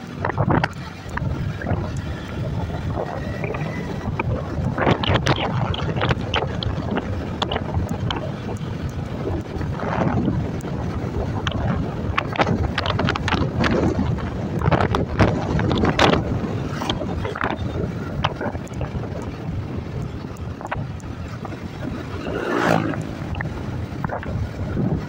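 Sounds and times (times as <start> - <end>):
motor scooter running: 0.0 - 25.0
wind buffeting microphone: 0.0 - 25.0.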